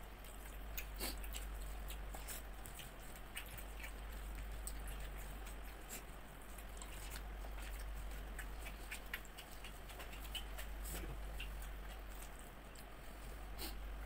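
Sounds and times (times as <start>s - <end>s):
fingers working crispy food: 0.0s - 13.8s
chewing: 0.0s - 14.0s
steady low hum: 0.0s - 14.0s.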